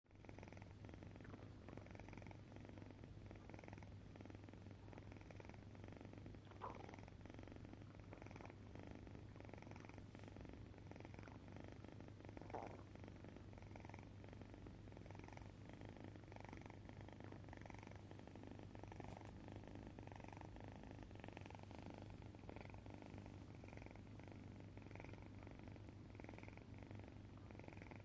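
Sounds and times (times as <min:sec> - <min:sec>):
cat snoring softly: 0:00.1 - 0:28.0.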